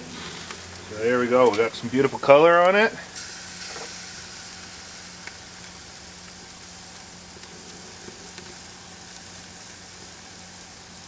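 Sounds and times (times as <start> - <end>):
fat popping on flames: 0.0 - 1.8, 2.6 - 11.0
steak sizzling on a grill: 0.0 - 11.0.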